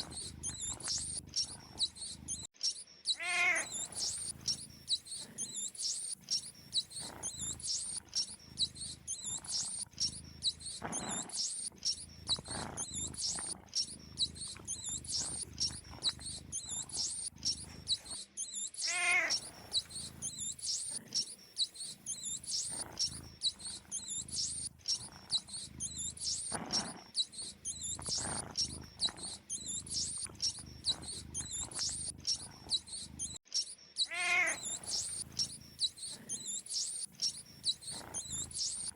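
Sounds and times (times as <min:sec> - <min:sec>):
mice squeaking: 0:00.0 - 0:38.9.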